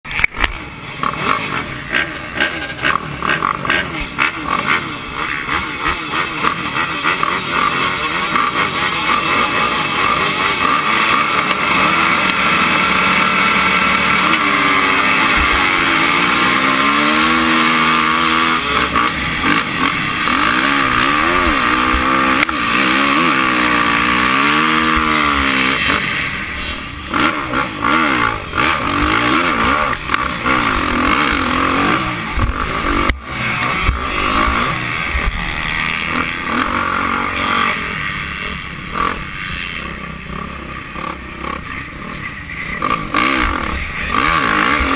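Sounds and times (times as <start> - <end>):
dirt bike engines revving: 0.1 - 44.9.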